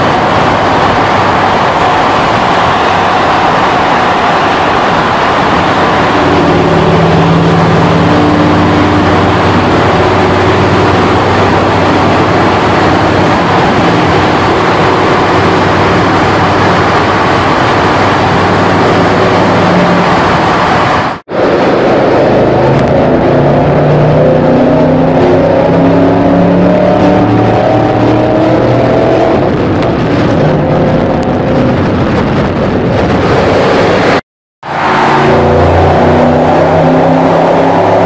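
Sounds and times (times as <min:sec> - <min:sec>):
car exhaust drone: 0:00.0 - 0:38.0
road and wind noise: 0:00.0 - 0:38.0.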